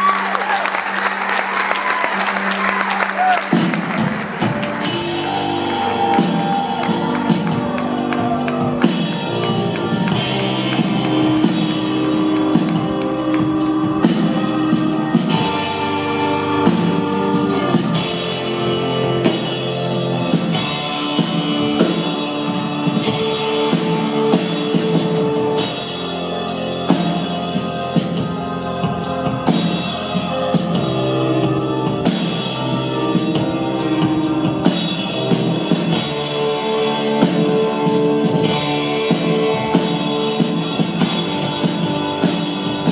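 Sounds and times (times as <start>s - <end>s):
guitar: 1.1s - 42.9s
drum kit beat: 3.1s - 42.9s.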